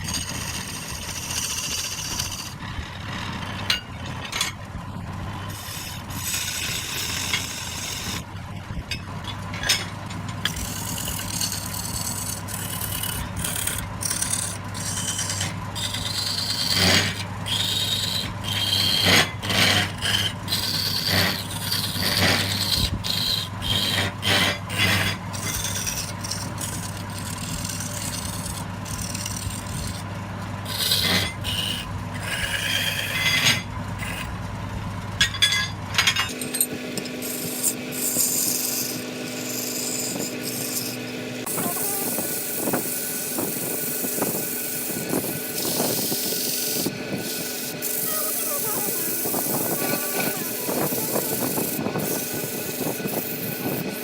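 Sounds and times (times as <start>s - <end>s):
wood lathe motor humming: 0.0s - 4.2s, 4.8s - 8.4s, 10.1s - 35.2s, 36.3s - 54.0s
tool scraping spinning wood: 0.0s - 54.0s.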